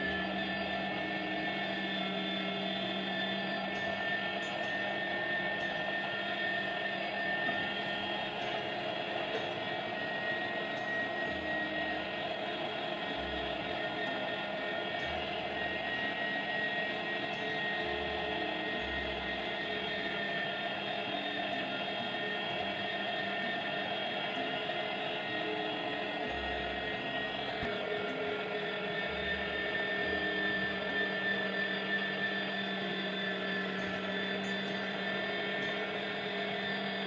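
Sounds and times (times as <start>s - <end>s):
electric meat grinder grinding: 0.0s - 37.0s.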